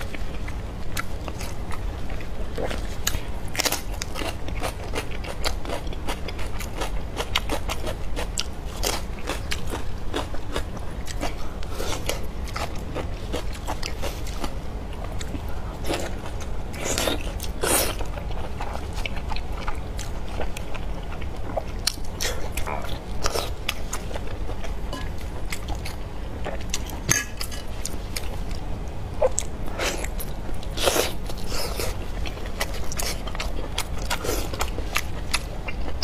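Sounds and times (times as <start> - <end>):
wet chewing sounds: 0.0 - 36.0.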